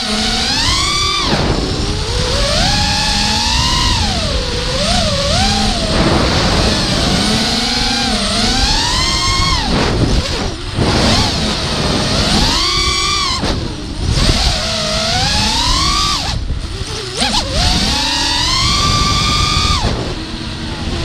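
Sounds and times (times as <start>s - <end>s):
quadcopter motors whining: 0.0s - 21.0s
wind rumble: 0.0s - 21.0s.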